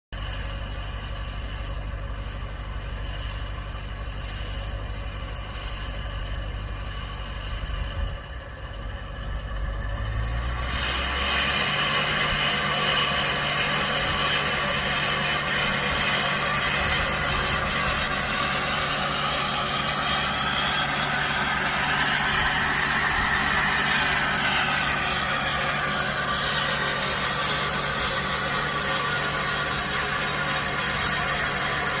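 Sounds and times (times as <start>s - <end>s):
diesel engine idling: 0.1s - 32.0s
high whistling turbo whine: 0.2s - 32.0s.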